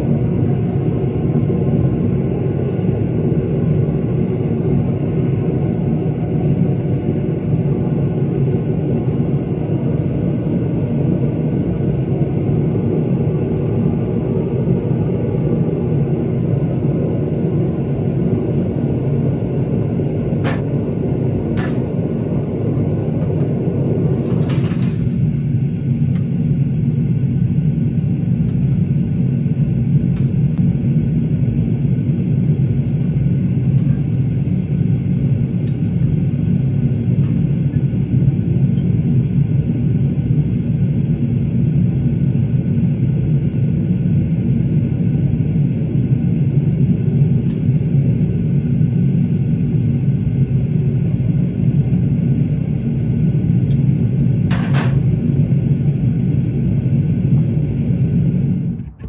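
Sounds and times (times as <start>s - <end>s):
gas burner rumbling: 0.0s - 59.0s.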